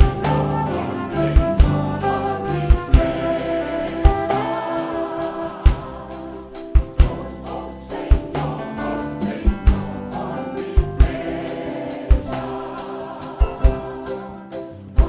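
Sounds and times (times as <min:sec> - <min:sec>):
choir singing gospel: 0:00.0 - 0:15.0
instrumental accompaniment: 0:00.0 - 0:15.0.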